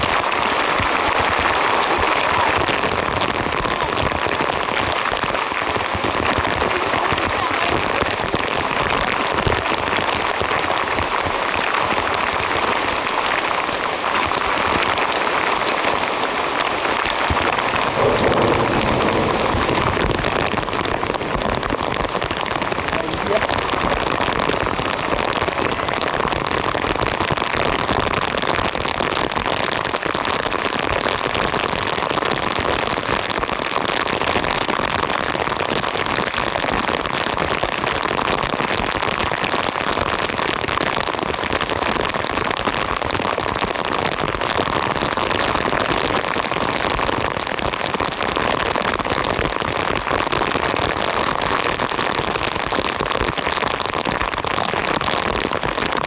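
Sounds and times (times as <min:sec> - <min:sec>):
torrential rain: 0:00.0 - 0:56.0.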